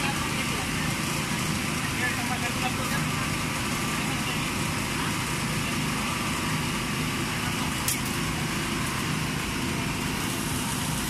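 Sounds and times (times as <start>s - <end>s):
gas burners roaring: 0.0s - 11.0s.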